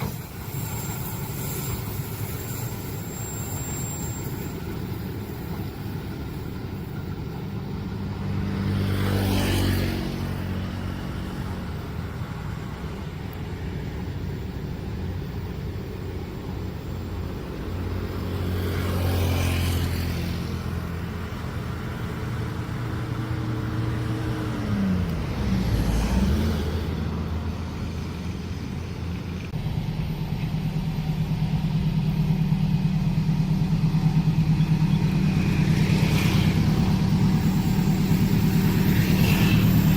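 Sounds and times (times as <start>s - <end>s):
road vehicles passing: 0.0s - 39.9s
steady engine drone: 0.0s - 39.9s.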